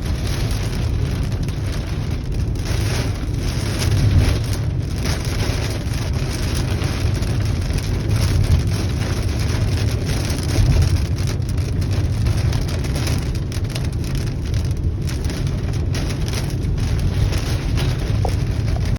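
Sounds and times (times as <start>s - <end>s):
heavy rain: 0.0s - 18.9s
low thunder rumble: 0.0s - 18.9s.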